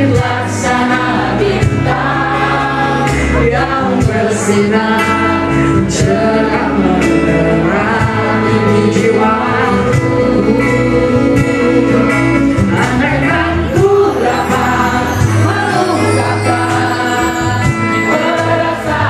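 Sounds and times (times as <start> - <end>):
bass guitar: 0.0 - 19.0
drums: 0.0 - 19.0
woman singing: 0.0 - 19.0.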